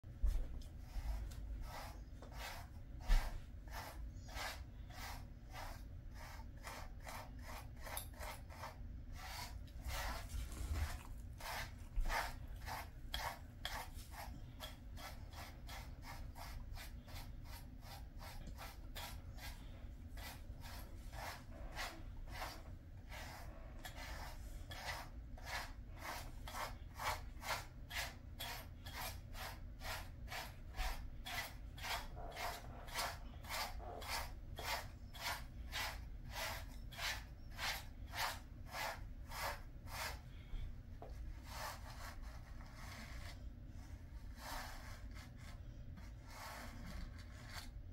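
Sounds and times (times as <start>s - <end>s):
brush strokes through dog fur: 0.1s - 47.8s.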